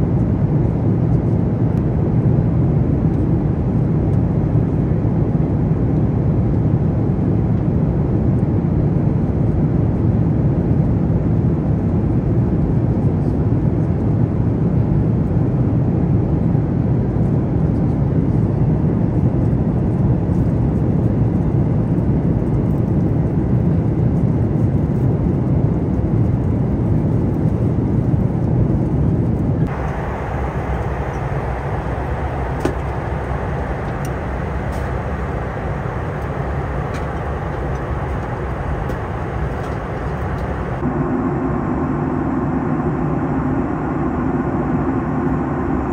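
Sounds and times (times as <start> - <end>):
airliner cabin rumble: 0.0 - 45.9
brighter steady cabin noise: 0.0 - 45.9.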